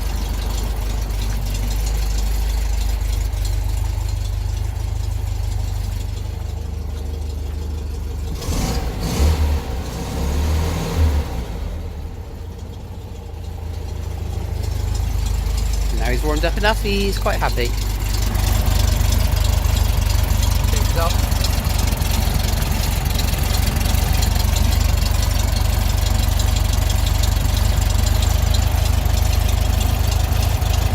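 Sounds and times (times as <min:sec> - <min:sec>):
air-cooled car engine idling: 0:00.0 - 0:30.9.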